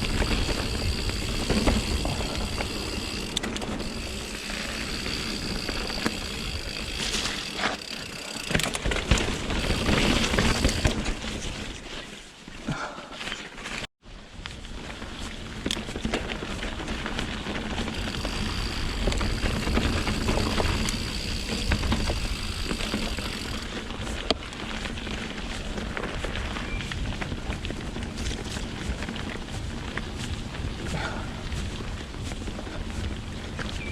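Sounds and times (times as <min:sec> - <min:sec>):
bike tyres rumbling on rocky trail: 0:00.0 - 0:33.9.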